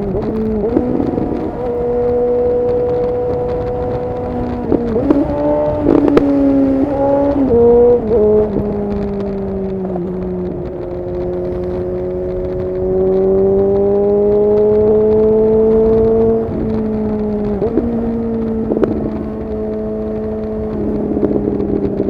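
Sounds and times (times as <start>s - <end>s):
exhaust cracks: 0.0s - 22.0s
motorcycle engine revving: 0.0s - 22.0s.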